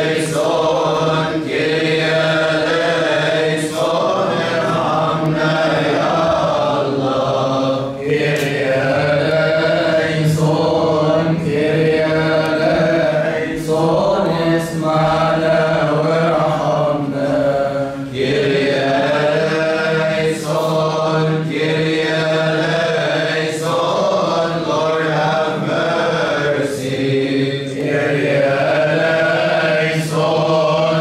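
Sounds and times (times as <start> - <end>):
voices chanting long notes: 0.0 - 31.0.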